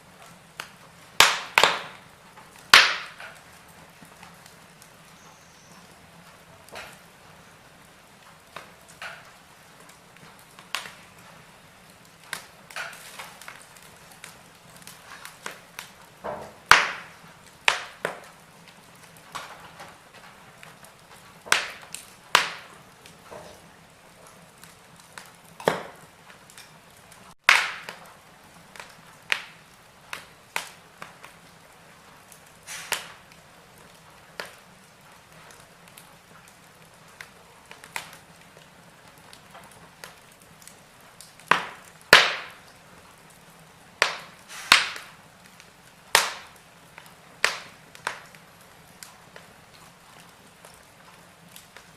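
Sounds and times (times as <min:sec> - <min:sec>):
faint steady hiss: 0:00.0 - 0:51.9
wood fire crackling: 0:00.0 - 0:51.9.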